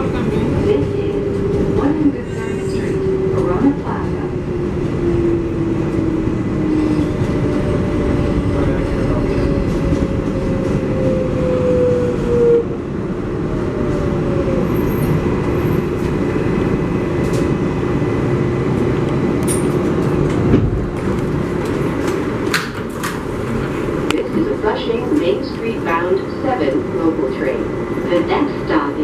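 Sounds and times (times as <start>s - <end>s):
stationary train car noise: 0.0s - 29.0s.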